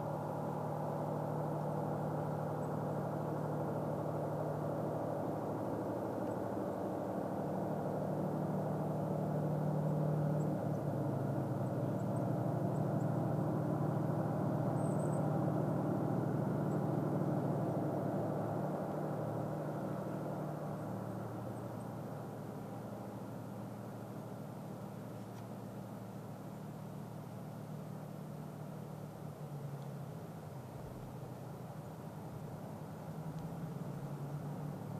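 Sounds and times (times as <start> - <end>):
locomotive diesel engine droning: 0.0 - 34.9.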